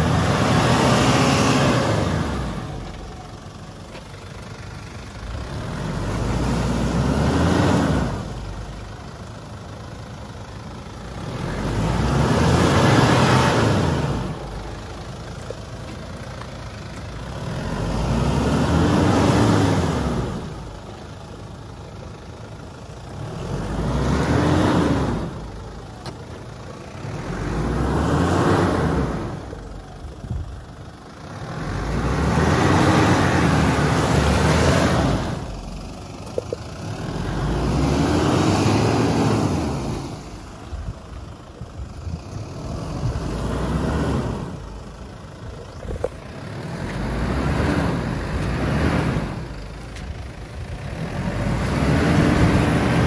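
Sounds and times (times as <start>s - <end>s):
tyres churning in wet mud: 0.0s - 8.5s, 9.1s - 29.8s, 31.2s - 41.4s, 42.3s - 53.0s
diesel engine revving: 0.0s - 53.0s.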